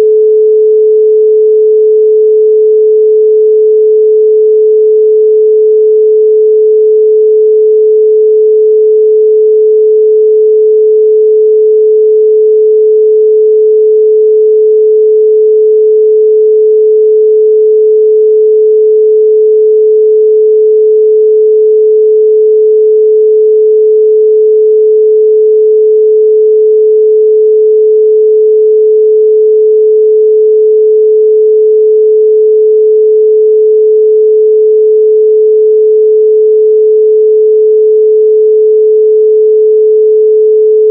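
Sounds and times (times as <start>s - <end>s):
pure sine tone: 0.0s - 40.9s.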